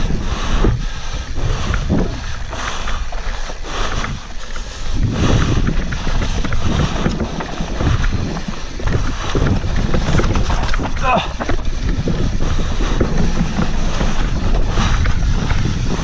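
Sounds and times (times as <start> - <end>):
mountain bike rumble and rattle: 0.0 - 16.0
wind buffeting microphone: 0.0 - 16.0.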